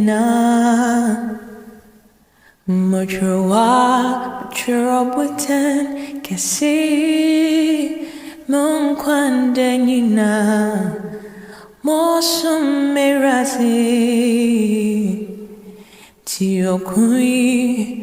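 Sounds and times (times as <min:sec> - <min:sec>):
woman singing with vibrato: 0:00.0 - 0:18.0.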